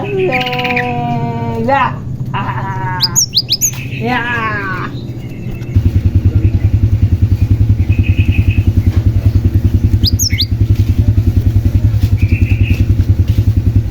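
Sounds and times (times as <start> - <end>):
bird chirping: 0.0 - 13.9
engine running with fast putter: 0.0 - 13.9.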